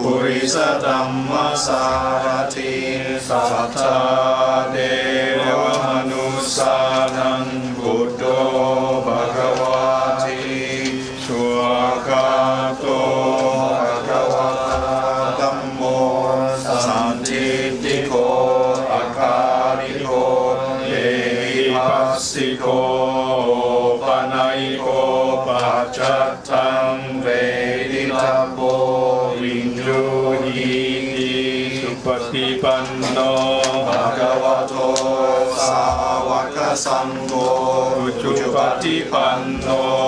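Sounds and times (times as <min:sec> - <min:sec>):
man chanting: 0:00.0 - 0:40.0.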